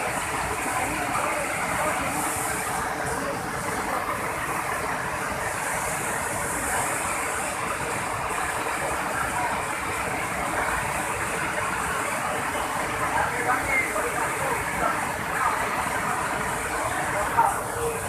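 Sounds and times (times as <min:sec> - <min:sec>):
floodwater rushing over weir: 0:00.0 - 0:18.0.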